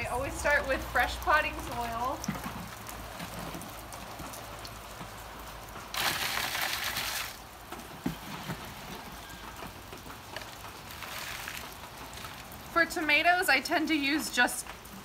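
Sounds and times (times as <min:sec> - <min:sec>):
gritty soil rustle: 0:00.0 - 0:13.3.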